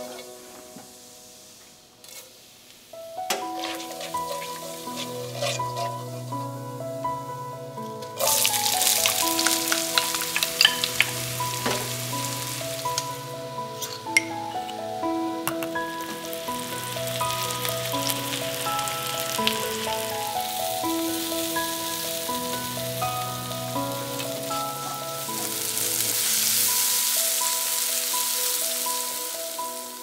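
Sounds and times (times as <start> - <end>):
gentle background music: 0.0 - 30.0
onions sizzling in oil: 0.0 - 30.0.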